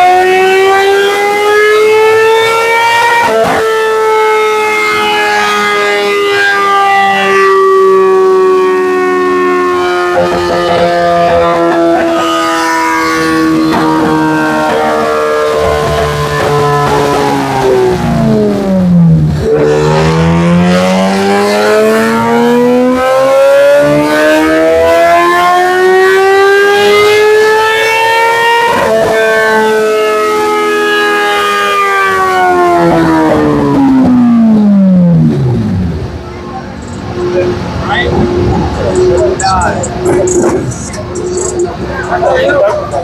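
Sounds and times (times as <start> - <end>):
motorcycle engine revving on dyno: 0.0 - 36.1.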